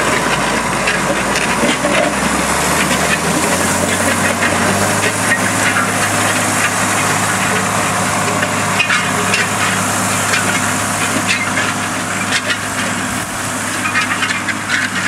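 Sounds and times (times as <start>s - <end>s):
disc harrow rattling through ground: 0.0s - 15.0s
tractor diesel engine under load: 0.0s - 15.0s.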